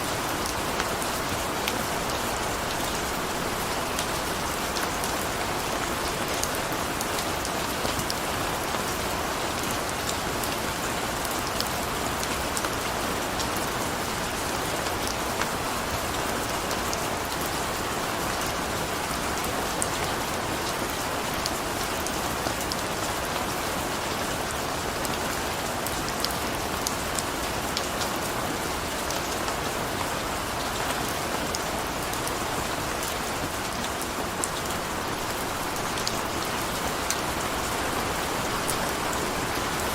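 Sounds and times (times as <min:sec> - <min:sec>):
rain drops ticking: 0:00.0 - 0:24.2, 0:24.8 - 0:39.9
steady rain: 0:00.0 - 0:39.9.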